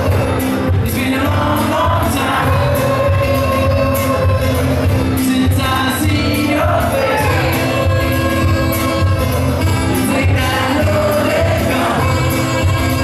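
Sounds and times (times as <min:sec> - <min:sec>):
live folk-pop band: 0:00.0 - 0:13.0
man singing into microphone: 0:00.6 - 0:13.0.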